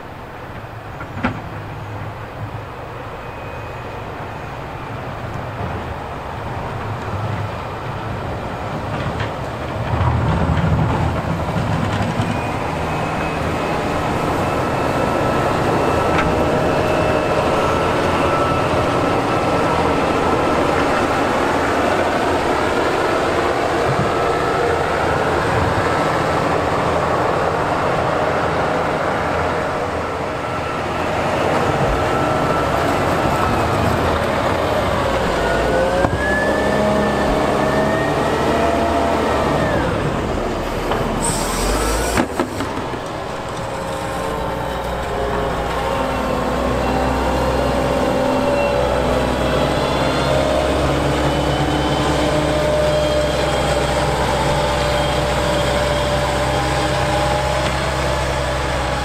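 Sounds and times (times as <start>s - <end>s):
diesel engine under load: 0.0s - 59.0s
scraping rumble of snow plowing: 0.0s - 59.0s.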